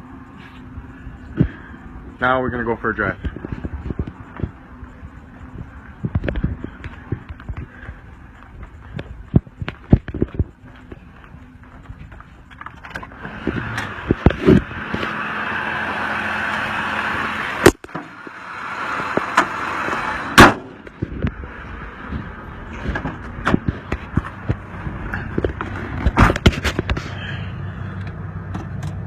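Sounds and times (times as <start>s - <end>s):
truck engine accelerating: 3.1s - 29.0s.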